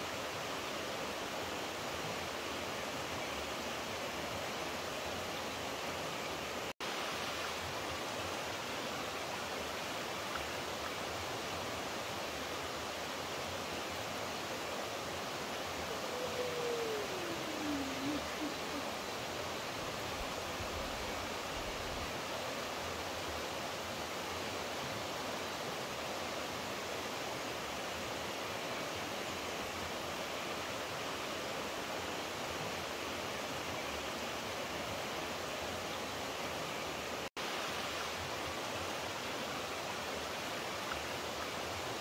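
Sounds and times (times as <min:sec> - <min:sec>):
running water rushing: 0:00.0 - 0:42.0.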